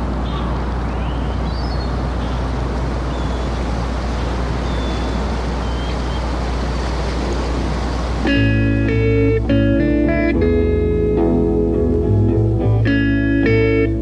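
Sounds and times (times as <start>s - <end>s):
constant low hum: 0.0s - 14.0s
steady rushing noise: 0.0s - 14.0s.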